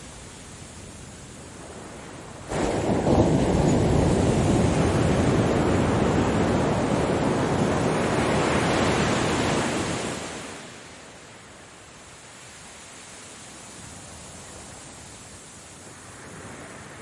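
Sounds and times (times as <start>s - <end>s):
wave breaking and washing in: 0.0s - 17.0s.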